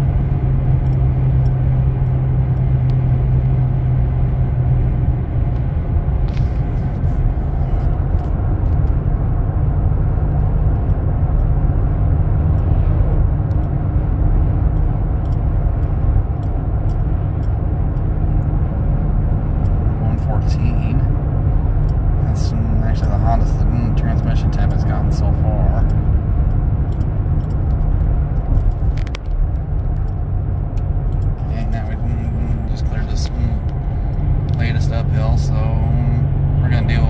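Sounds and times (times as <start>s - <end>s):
engine and road rumble: 0.0s - 37.0s
low hum: 0.0s - 37.0s.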